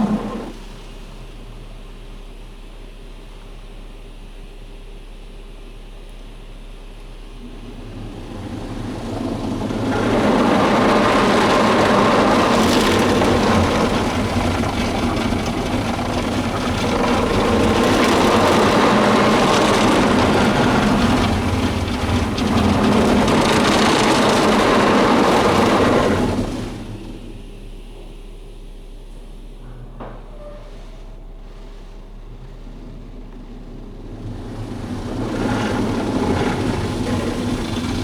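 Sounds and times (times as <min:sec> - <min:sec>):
car wash machinery rushing: 0:00.0 - 0:38.0.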